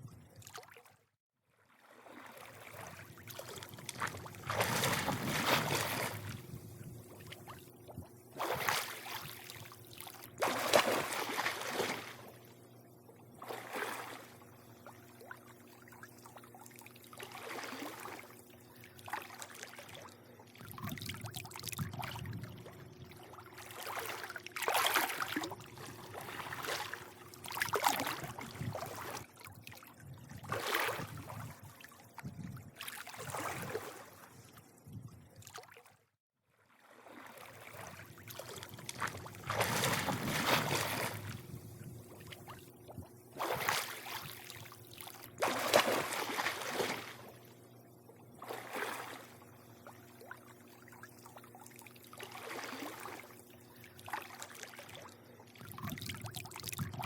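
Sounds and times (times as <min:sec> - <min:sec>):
pool water lapping and sloshing: 0:00.0 - 0:57.0
faint steady hum: 0:01.8 - 0:35.7, 0:36.8 - 0:57.0.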